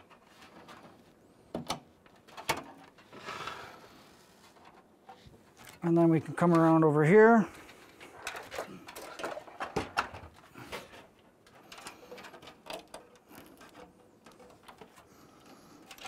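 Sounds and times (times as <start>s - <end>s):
cable connectors clicking and rustling: 0.0s - 3.2s, 4.5s - 16.0s.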